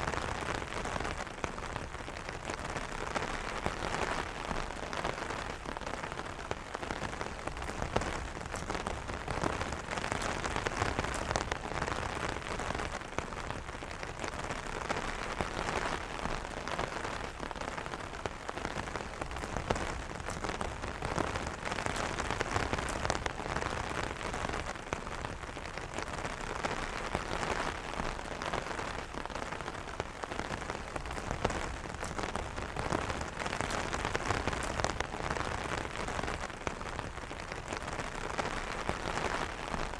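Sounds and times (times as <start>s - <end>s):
rain on an umbrella: 0.0s - 39.9s.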